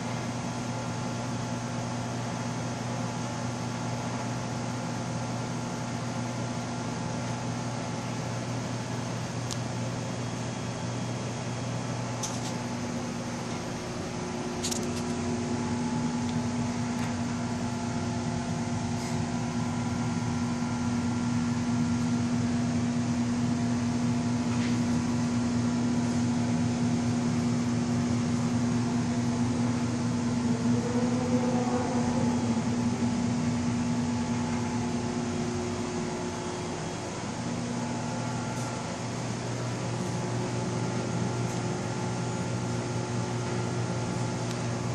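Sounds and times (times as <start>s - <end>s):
aquarium pump humming: 0.0s - 44.9s.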